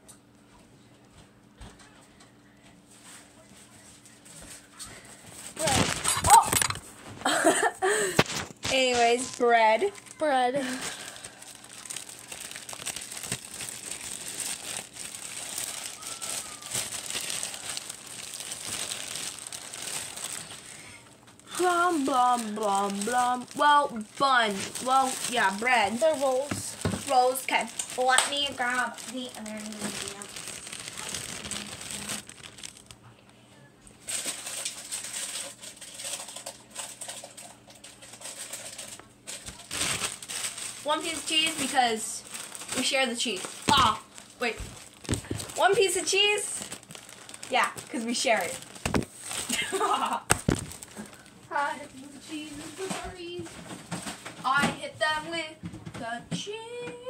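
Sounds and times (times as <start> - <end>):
plastic bag crinkling: 5.4 - 33.4, 34.0 - 54.4.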